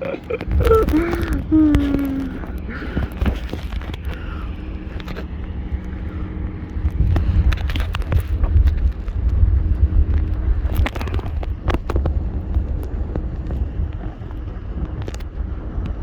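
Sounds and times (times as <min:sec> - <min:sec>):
faint steady hum: 0:00.0 - 0:16.0
scattered clicks: 0:00.0 - 0:16.0
wind buffeting microphone: 0:00.0 - 0:16.0.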